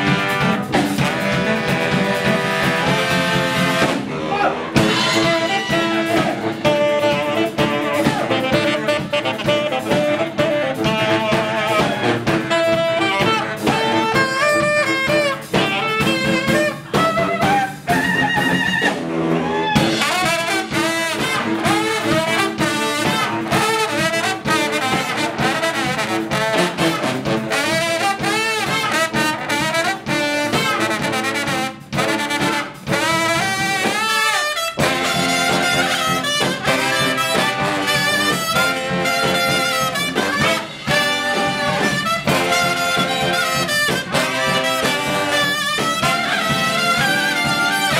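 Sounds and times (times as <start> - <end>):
brass band playing: 0.0 - 47.9
drum strokes: 0.0 - 47.9.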